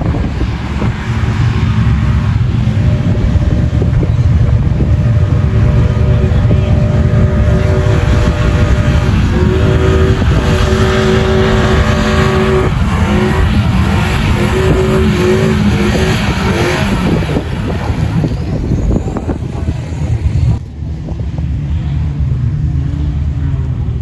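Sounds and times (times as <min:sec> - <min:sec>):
heavy low rumble: 0:00.0 - 0:24.0.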